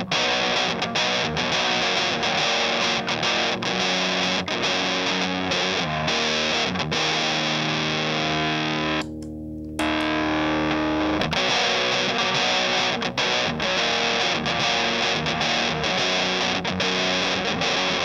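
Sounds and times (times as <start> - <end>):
fuzz distorted electric guitar: 0.0 - 18.0.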